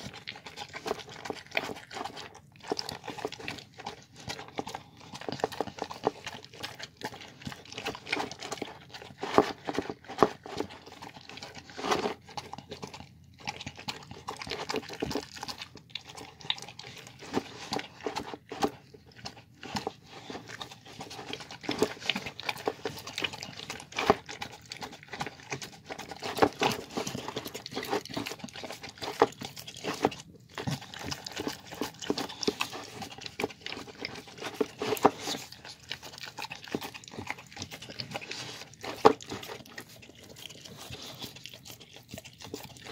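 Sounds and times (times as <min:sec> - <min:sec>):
dog chewing and smacking: 0:00.0 - 0:42.9.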